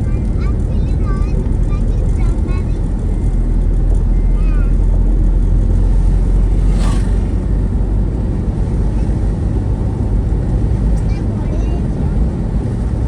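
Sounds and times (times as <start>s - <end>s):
vehicle rumble on road: 0.0s - 13.0s.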